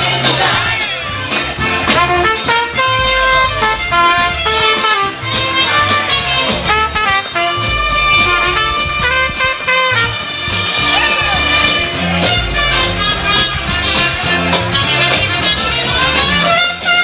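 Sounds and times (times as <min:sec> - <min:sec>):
bass line: 0:00.0 - 0:17.0
trumpet playing melody: 0:00.4 - 0:17.0.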